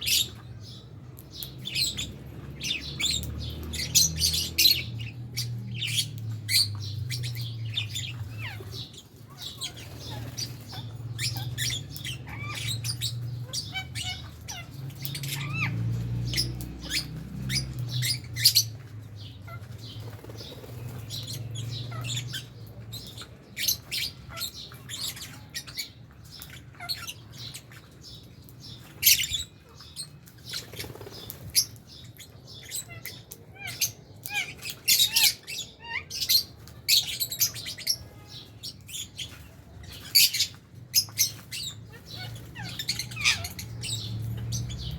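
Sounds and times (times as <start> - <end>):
lovebirds chirping and squawking: 0.0 - 44.9.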